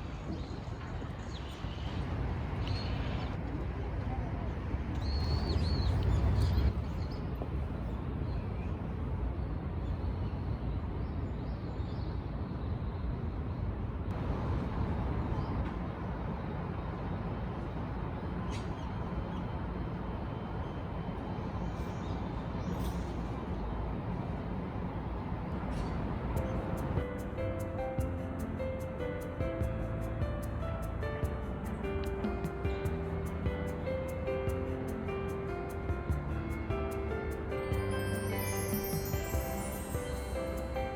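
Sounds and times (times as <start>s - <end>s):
distant city traffic hum: 0.0s - 40.9s.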